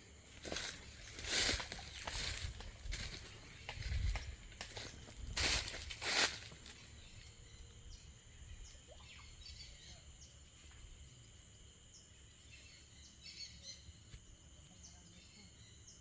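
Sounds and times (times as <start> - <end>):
insects chorus: 0.0 - 16.0
faint bird chirps: 0.5 - 16.0.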